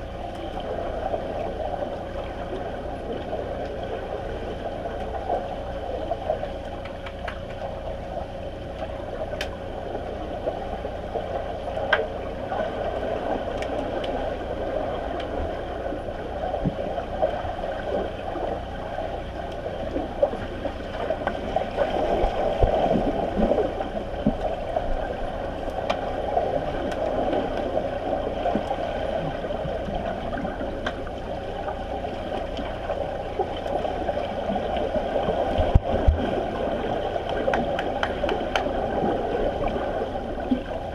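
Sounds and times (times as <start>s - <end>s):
underwater water rushing and gurgling: 0.0s - 40.9s
faint underwater clicks and knocks: 0.2s - 40.9s.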